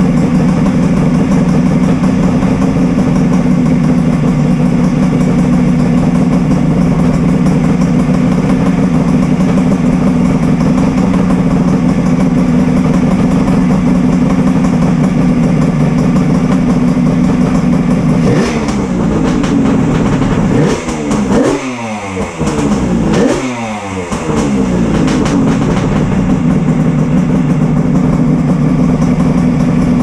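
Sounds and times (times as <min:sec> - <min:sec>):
two-stroke engine idling: 0:00.0 - 0:30.0.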